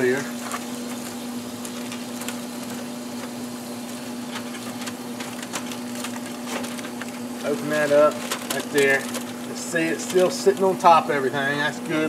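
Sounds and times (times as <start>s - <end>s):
aluminium foil crinkling: 0.0s - 12.0s
steady low hum: 0.0s - 12.0s.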